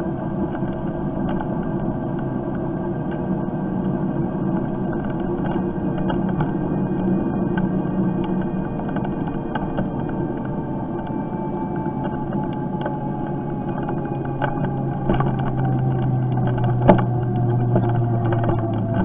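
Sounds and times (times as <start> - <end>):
electric moped road and motor noise: 0.0 - 19.0
faint motor whine: 0.0 - 19.0
low hum: 0.0 - 19.0.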